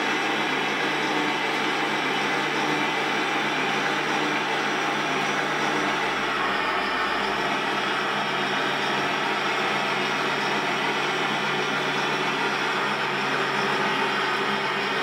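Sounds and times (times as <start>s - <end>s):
model truck mechanical drone: 0.0s - 15.0s.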